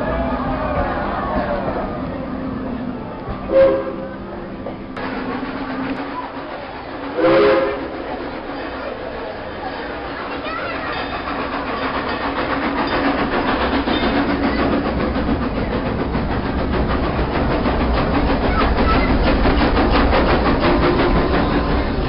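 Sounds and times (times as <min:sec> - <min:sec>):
steam train rumble and hiss: 0:00.0 - 0:22.0
train chuffs or rail clicks: 0:03.2 - 0:22.0.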